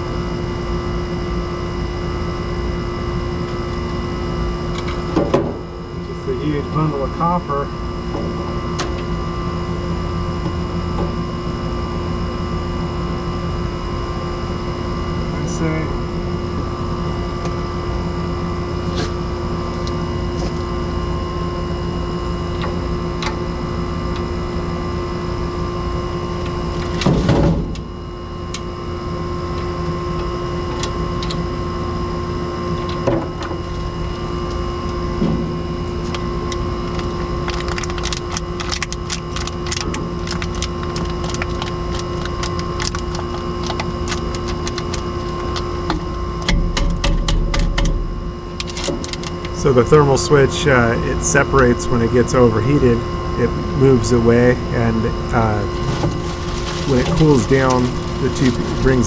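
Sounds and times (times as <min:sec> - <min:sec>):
mechanical hum: 0:00.0 - 0:59.0.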